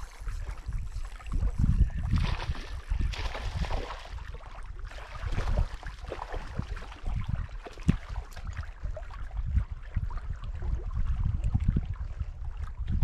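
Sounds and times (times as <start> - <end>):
lake water lapping: 0.0 - 13.0
wind buffeting microphone: 0.0 - 13.0.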